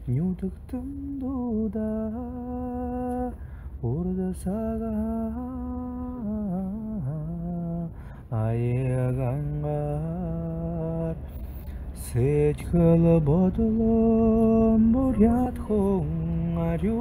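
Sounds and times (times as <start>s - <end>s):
person singing chant-like melody: 0.2s - 17.0s.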